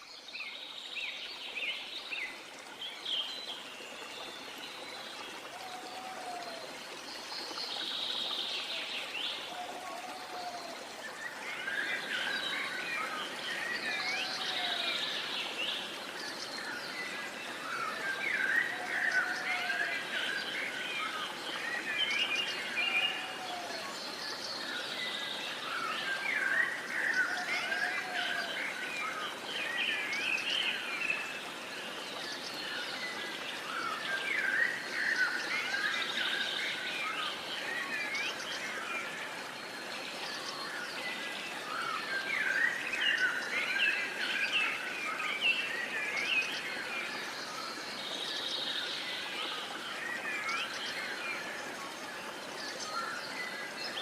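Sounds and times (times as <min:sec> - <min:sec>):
soft steady hiss: 0:00.0 - 0:54.0
songbirds singing and chirping: 0:00.0 - 0:54.0.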